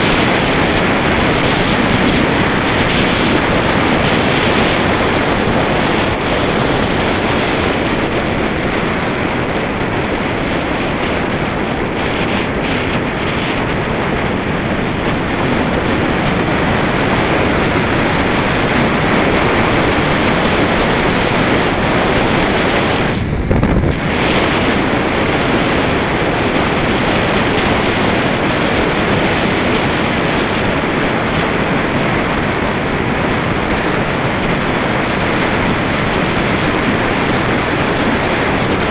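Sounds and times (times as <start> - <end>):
tyre noise on asphalt: 0.0 - 38.9
wind buffeting microphone: 0.0 - 38.9.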